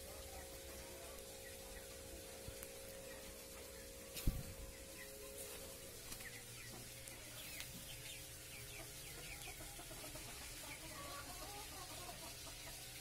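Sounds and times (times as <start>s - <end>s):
chicken peeping: 0.1s - 13.0s.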